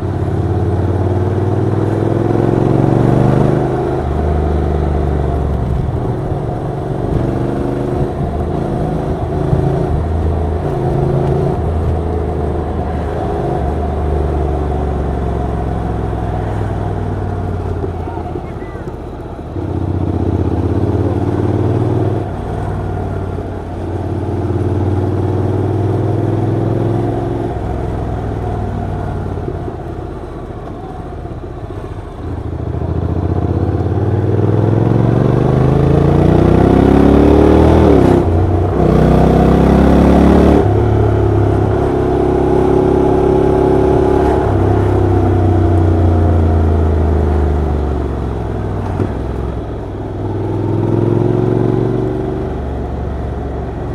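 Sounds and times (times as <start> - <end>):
motorcycle engine and exhaust: 0.0 - 53.9.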